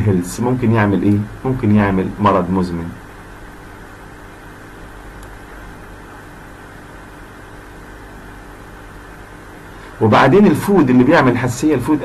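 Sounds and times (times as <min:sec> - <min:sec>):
background hiss: 0:00.0 - 0:12.0
low electrical hum: 0:00.0 - 0:12.0.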